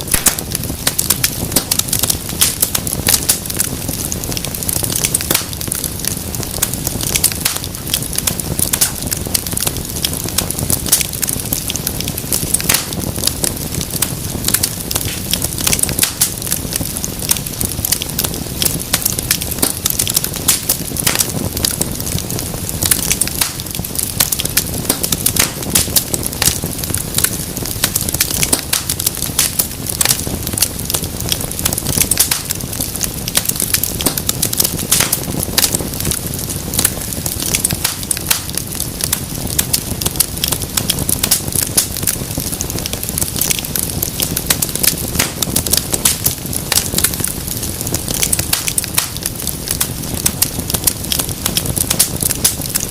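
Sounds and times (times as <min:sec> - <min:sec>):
low rumble of flames: 0:00.0 - 0:52.9
wood fire crackling: 0:00.0 - 0:52.9.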